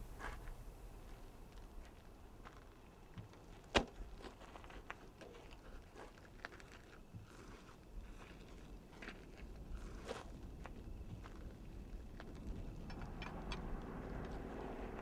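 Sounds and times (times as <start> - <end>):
footsteps on dirt and gravel: 0.2 - 15.0.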